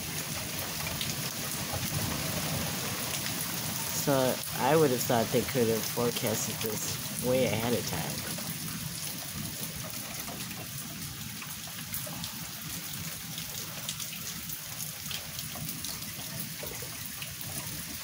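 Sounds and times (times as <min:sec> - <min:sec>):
rain falling and dripping: 0:00.0 - 0:18.0.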